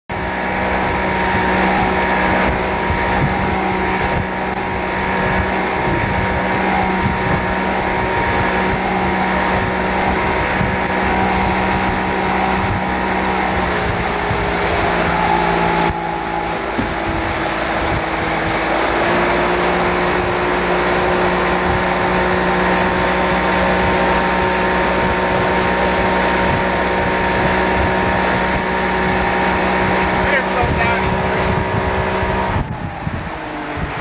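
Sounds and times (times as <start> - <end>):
motorboat engine drone: 0.0 - 34.0
rushing water noise: 0.1 - 34.0.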